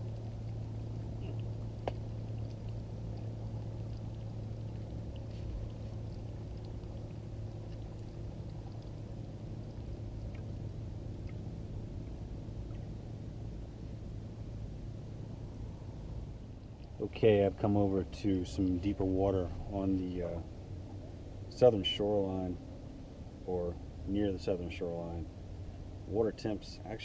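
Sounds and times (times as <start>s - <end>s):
boat motor humming: 0.0s - 24.0s.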